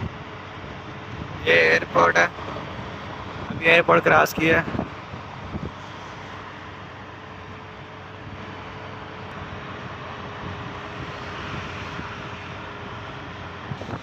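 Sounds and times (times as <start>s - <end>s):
vehicle drone: 0.0s - 14.0s.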